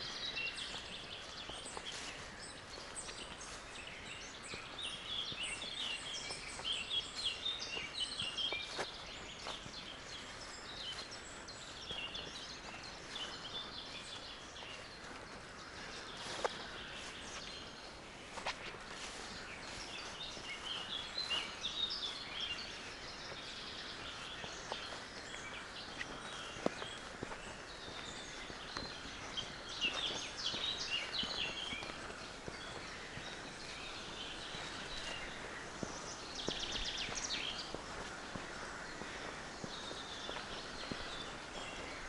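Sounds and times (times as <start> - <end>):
footsteps: 0.0 - 42.0
outdoor background noise: 0.0 - 42.0
songbirds chirping: 0.0 - 42.0.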